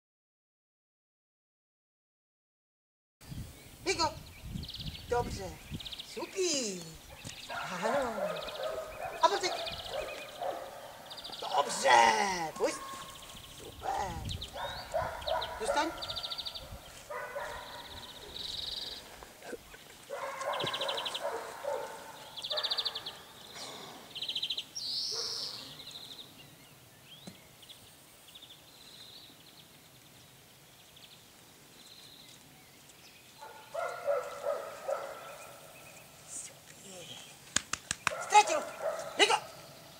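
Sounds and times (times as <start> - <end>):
songbirds trilling: 3.2 - 39.9.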